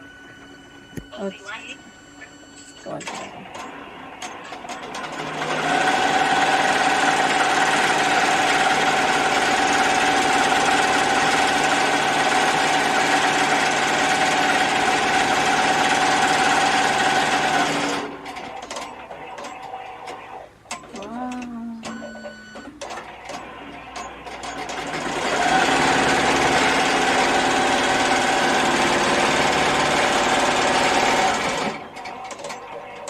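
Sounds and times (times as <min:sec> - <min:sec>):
embroidery machine stitching: 0:04.3 - 0:21.0, 0:22.8 - 0:32.7.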